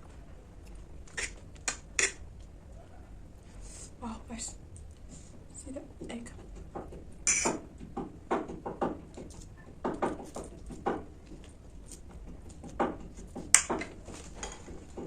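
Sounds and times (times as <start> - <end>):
soft chewing and mouth noises: 0.0 - 7.2, 9.1 - 15.0.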